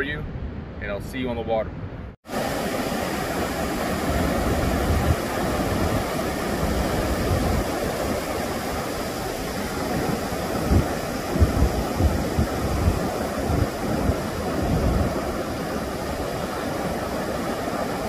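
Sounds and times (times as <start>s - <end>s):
wind buffeting microphone: 0.0s - 18.0s
ocean surf breaking: 2.2s - 18.0s.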